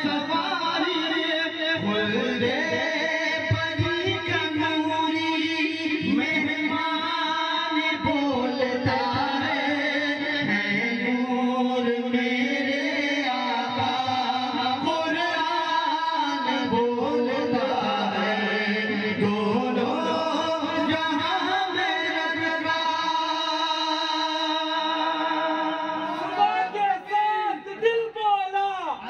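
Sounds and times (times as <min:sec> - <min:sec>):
men singing devotional song: 0:00.0 - 0:27.9.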